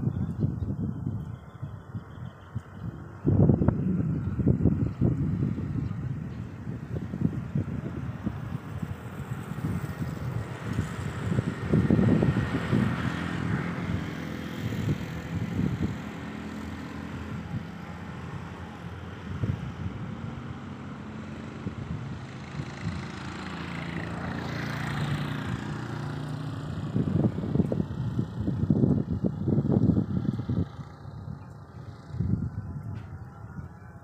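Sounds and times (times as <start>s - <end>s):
distant vehicle engine running: 0.0s - 34.0s
wind buffeting microphone: 0.0s - 34.0s.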